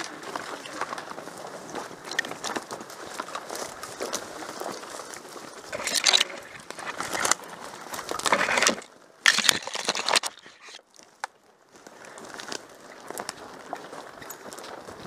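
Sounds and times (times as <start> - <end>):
footsteps through rustling undergrowth: 0.0 - 15.0.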